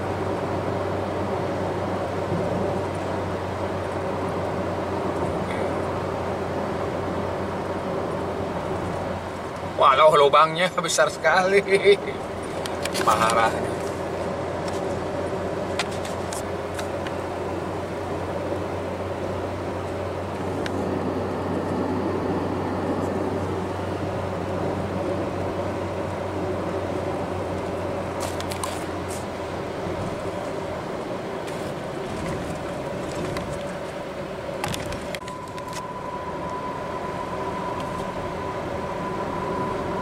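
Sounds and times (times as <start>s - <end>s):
car road and engine noise: 0.0s - 40.0s.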